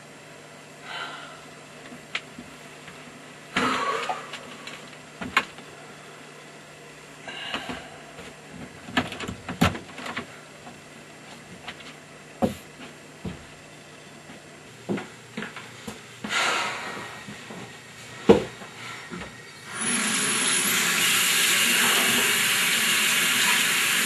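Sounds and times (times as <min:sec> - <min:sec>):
low steady hum: 0:00.0 - 0:19.8.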